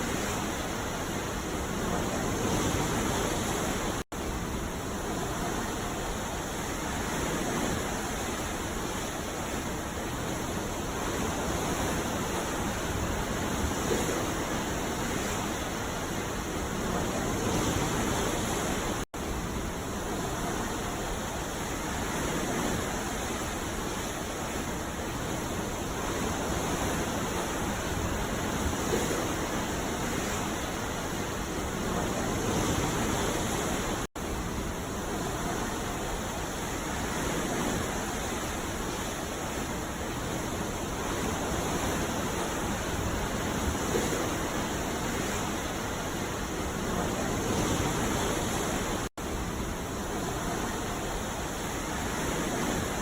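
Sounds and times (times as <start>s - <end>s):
sea surf rushing: 0.0s - 53.0s.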